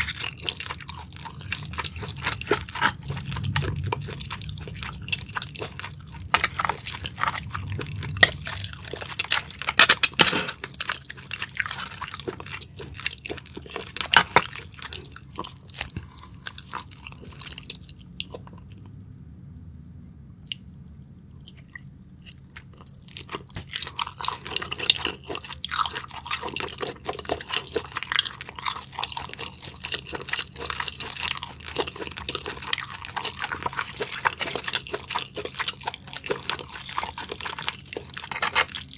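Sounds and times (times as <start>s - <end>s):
person chewing clams: 0.0s - 19.0s, 21.4s - 38.9s.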